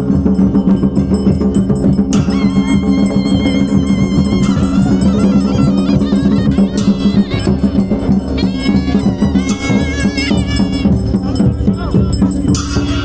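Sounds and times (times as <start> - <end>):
percussion: 0.0 - 13.0
wind instrument melody: 0.1 - 13.0.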